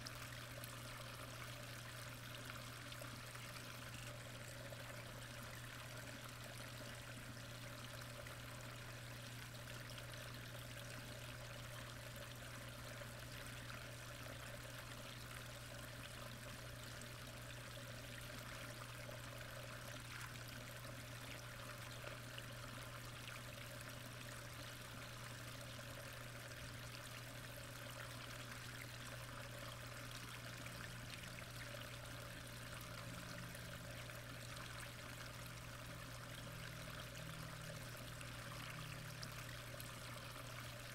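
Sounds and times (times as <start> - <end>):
flowing pond water: 0.0 - 40.9
low steady hum: 0.0 - 40.9.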